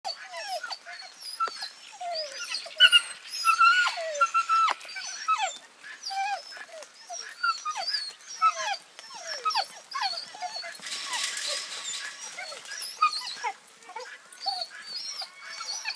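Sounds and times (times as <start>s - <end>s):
dog whining and yelping: 0.1s - 15.9s.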